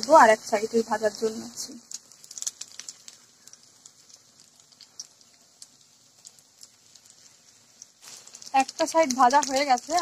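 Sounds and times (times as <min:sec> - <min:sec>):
food deep-frying in hot oil: 0:00.0 - 0:10.0.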